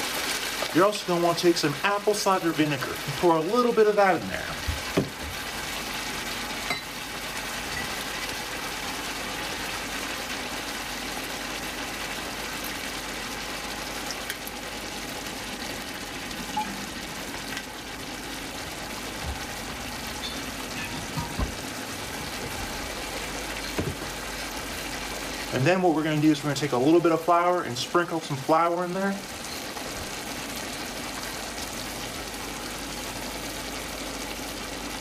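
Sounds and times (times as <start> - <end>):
chicken sizzling in frying pan: 0.0 - 35.0.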